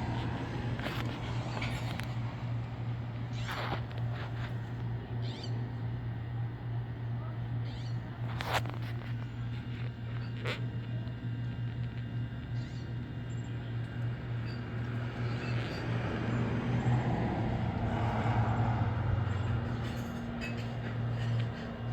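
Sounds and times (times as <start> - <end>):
constant low hum: 0.0 - 21.9.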